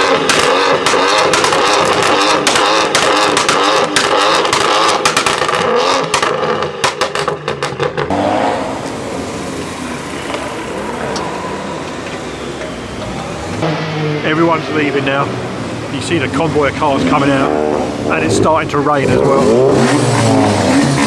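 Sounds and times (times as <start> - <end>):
car engine revving with crackling: 0.0 - 21.0.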